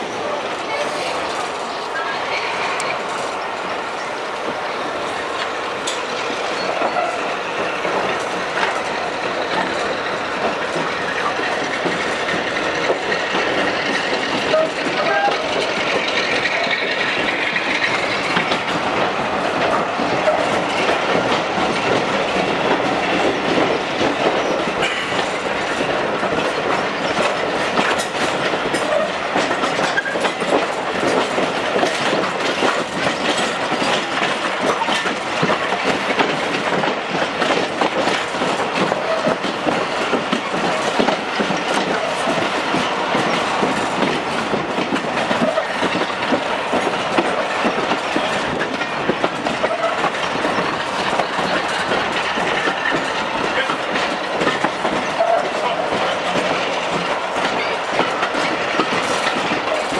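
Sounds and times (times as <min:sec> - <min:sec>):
train carriage rolling: 0:00.0 - 0:59.9
wheels clicking over rail joints: 0:00.7 - 0:59.9.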